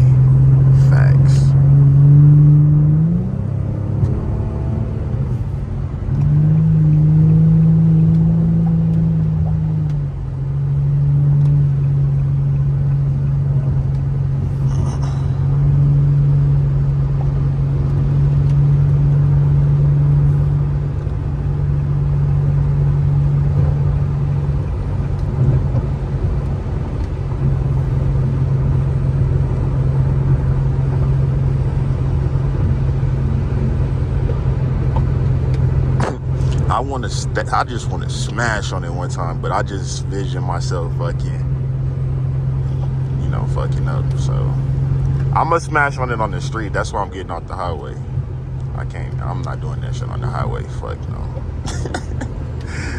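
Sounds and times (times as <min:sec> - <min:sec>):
car engine droning: 0:00.0 - 0:52.9.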